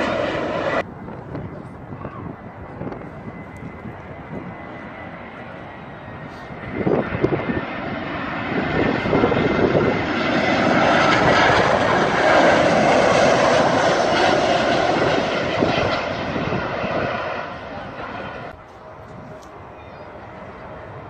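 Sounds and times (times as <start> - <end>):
airliner engines roaring: 0.0 - 21.0.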